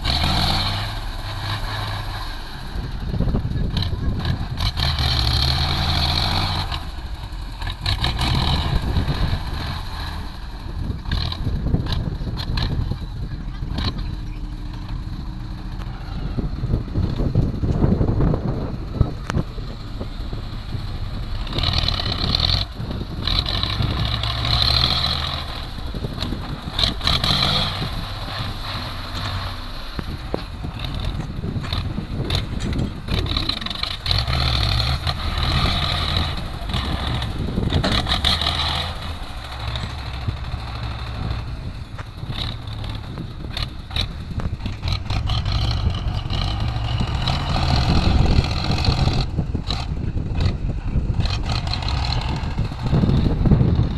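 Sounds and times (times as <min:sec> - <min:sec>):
diesel machinery engine running: 0:00.0 - 0:53.9.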